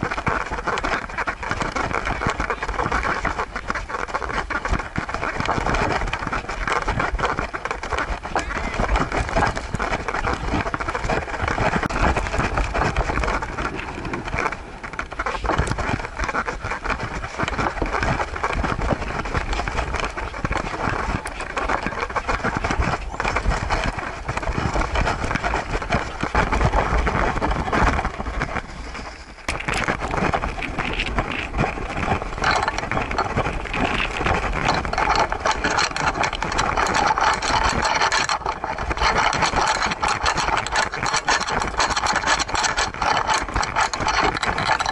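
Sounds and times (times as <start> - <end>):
low wind rumble on microphone: 0.0 - 44.9.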